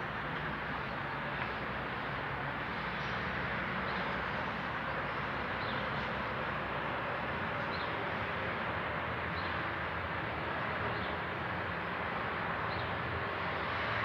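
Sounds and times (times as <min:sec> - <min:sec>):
low rumble of vehicle engines: 0:00.0 - 0:14.0.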